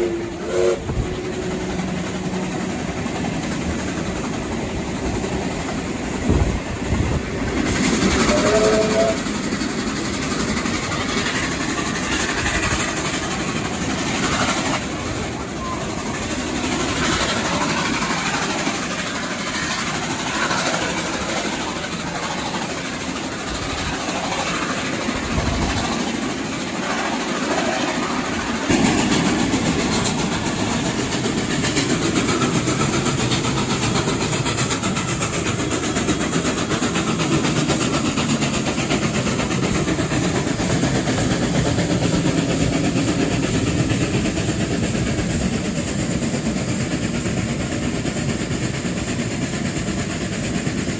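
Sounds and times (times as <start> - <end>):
train wheels clattering over rails: 0.0 - 50.9.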